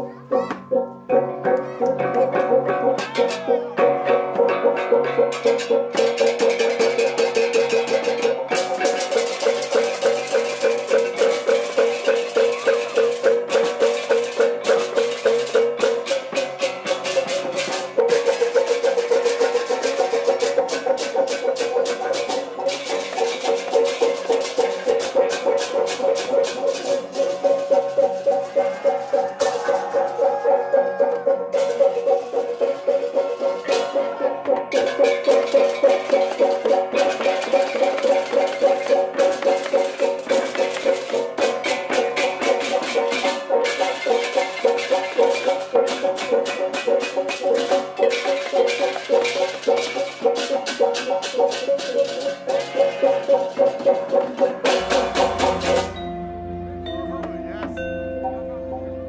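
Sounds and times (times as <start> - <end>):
gamelan music: 0.0 - 59.0.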